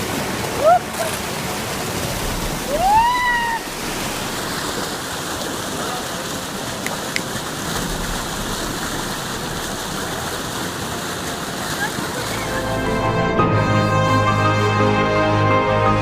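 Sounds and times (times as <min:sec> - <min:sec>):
rushing white water: 0:00.0 - 0:16.0.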